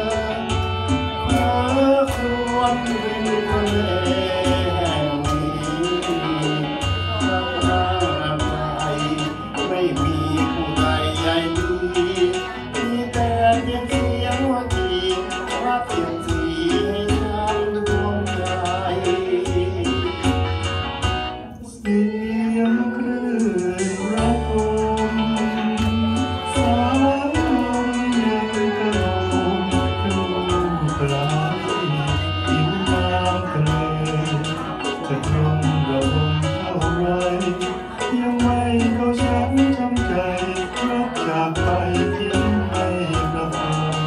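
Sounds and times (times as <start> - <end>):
karaoke backing track: 0.0 - 44.0
man singing into microphone: 0.0 - 44.0.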